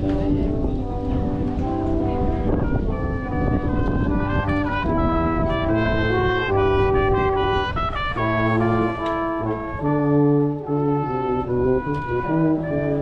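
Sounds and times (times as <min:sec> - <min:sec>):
brass instruments in harmony: 0:00.0 - 0:13.0.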